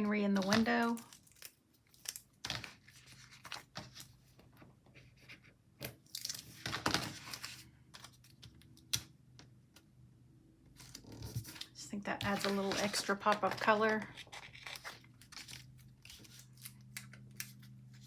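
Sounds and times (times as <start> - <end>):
paper rustling and crinkling: 0.3 - 5.5, 6.1 - 8.6, 10.8 - 18.0.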